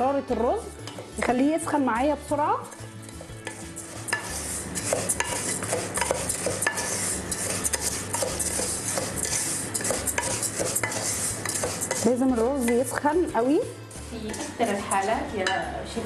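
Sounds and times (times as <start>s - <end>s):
rice sizzling in oil: 0.0s - 15.1s
spatula scraping metal pot: 0.3s - 15.6s.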